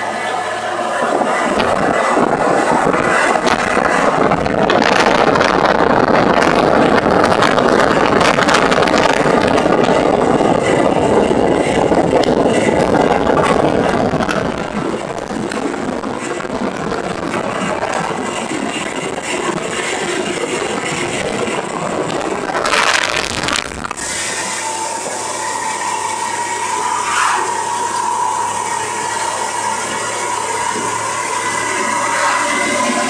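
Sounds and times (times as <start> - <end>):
road and wind noise: 0.0 - 33.0
truck engine running under load: 0.0 - 33.0.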